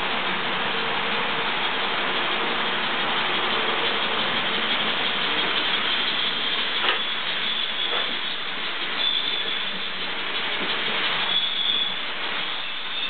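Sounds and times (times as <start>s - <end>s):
model trains whirring on rails: 0.0s - 13.0s.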